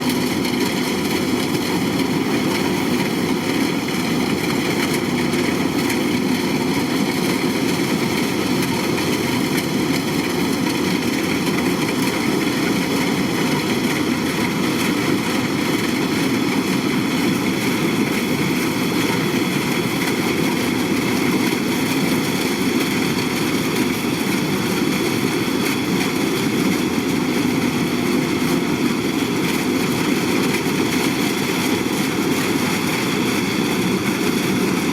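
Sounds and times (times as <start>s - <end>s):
combine harvester engine droning: 0.0s - 34.9s.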